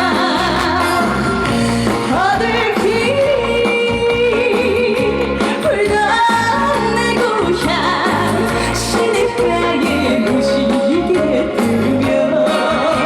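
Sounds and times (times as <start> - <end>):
recorded backing track: 0.0 - 13.0
woman singing: 0.0 - 13.0.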